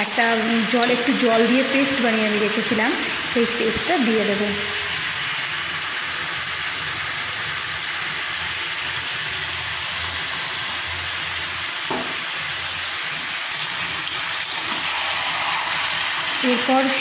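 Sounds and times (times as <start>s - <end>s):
meat and onions sizzling in oil: 0.0s - 17.0s.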